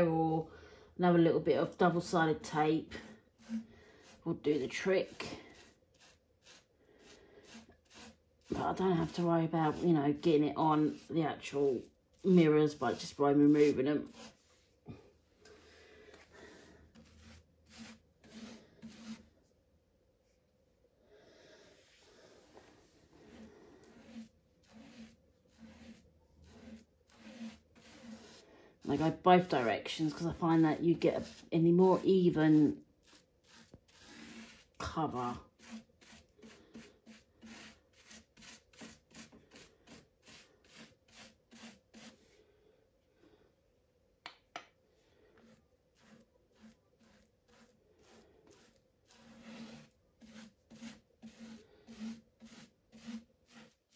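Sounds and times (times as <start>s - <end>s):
paintbrush swishing strokes: 2.8s - 15.0s, 15.6s - 19.5s, 21.5s - 42.4s, 45.4s - 53.9s.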